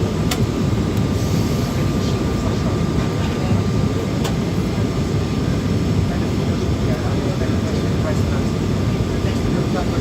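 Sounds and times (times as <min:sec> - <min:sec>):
airplane engine and airflow rumble: 0:00.0 - 0:10.0.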